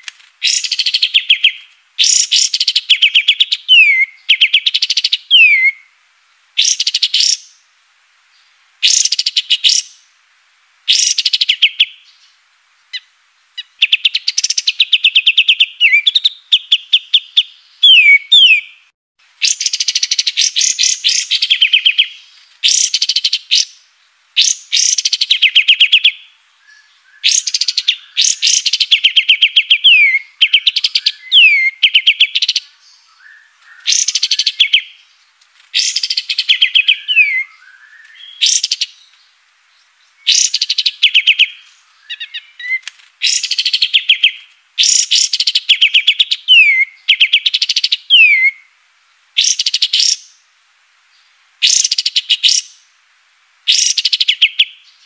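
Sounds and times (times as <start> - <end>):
songbird singing: 0.0 - 53.0, 53.6 - 55.0.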